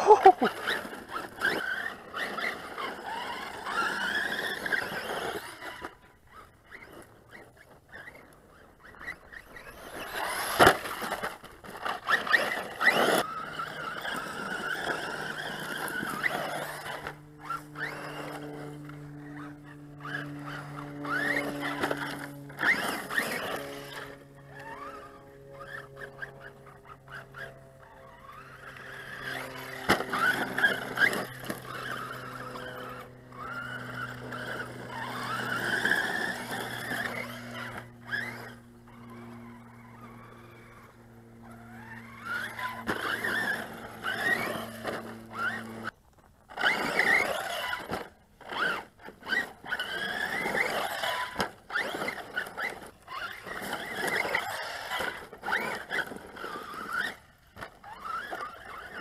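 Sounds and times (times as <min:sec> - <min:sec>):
electric motor whining: 0:00.0 - 0:59.0
steady low hum: 0:00.0 - 0:59.0
tyres skidding on dirt: 0:00.0 - 0:59.0.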